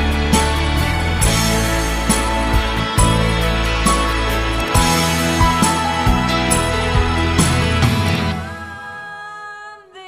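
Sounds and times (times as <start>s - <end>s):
background music with steady beat: 0.0s - 9.5s.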